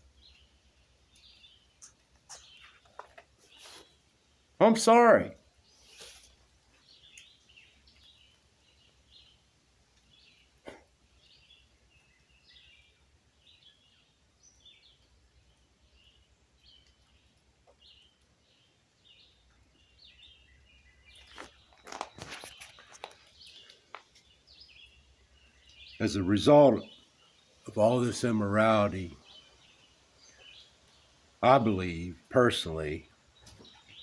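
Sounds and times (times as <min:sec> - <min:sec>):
faint birds chirping: 0:00.0 - 0:34.0.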